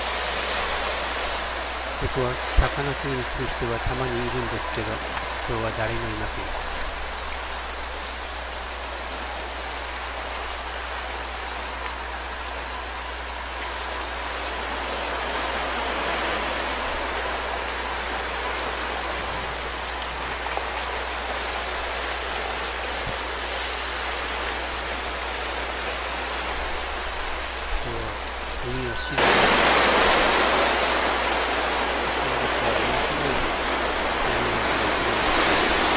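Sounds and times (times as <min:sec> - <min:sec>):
sea surf washing on shore: 0:00.0 - 0:35.9.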